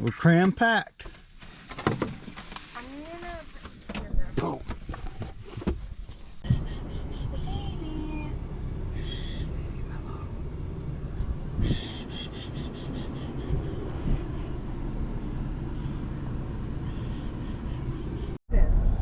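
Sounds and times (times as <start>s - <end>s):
car engine low rumble: 1.0s - 19.0s.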